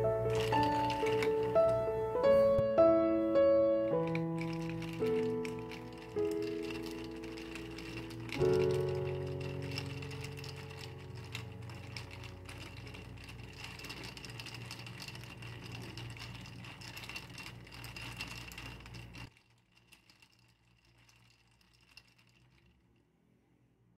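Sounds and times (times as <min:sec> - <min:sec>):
ice cubes clinking in glass jar: 0:00.0 - 0:01.9, 0:03.9 - 0:22.8.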